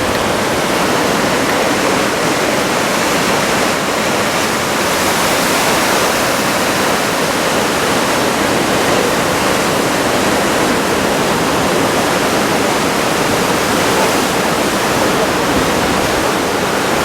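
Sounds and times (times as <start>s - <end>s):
surf breaking: 0.0s - 17.0s.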